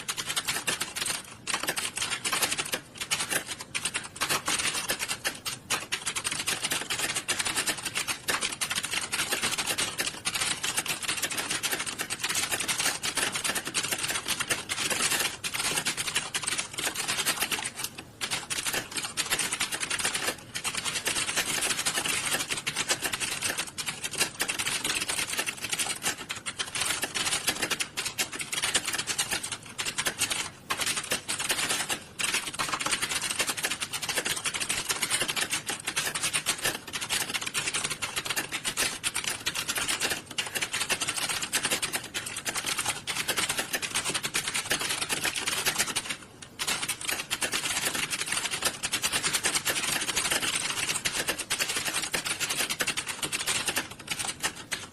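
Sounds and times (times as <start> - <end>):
many keyboards clattering: 0.0 - 54.9.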